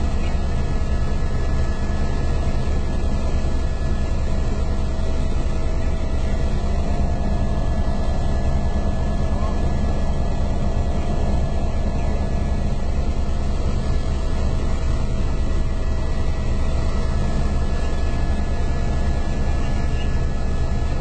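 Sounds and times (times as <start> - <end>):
faint steady whine: 0.0 - 21.0
helicopter engine and rotors: 0.0 - 21.0.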